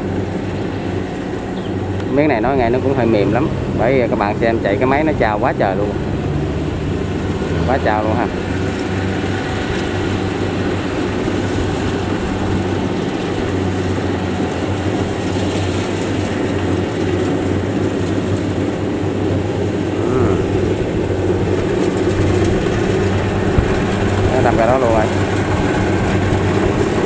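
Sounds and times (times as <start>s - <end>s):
combine harvester engine and threshing: 0.0s - 27.0s.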